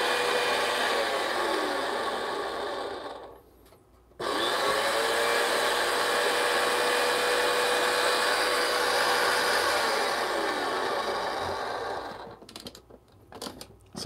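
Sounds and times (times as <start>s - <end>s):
coffee grinder motor humming: 0.0s - 3.4s, 4.2s - 12.4s.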